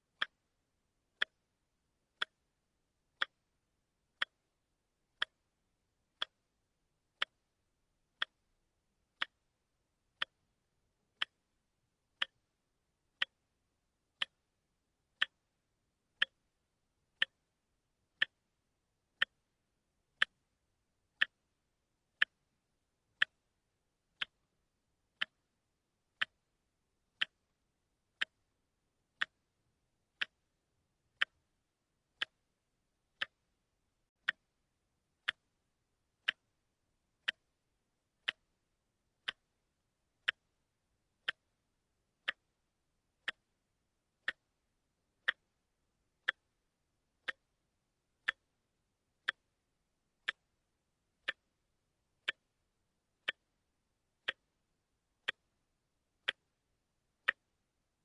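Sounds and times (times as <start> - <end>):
watch ticking: 0.0 - 57.9.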